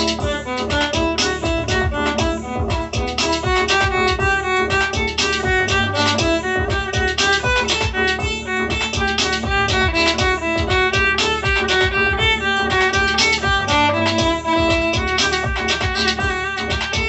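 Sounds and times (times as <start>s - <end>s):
melodic hand drum notes: 0.0s - 17.0s.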